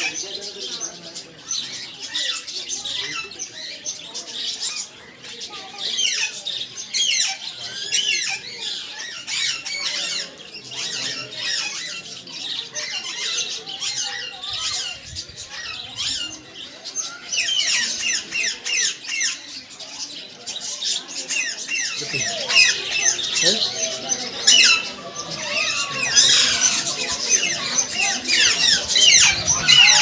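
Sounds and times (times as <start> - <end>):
parrots squawking and chattering: 0.0 - 30.0.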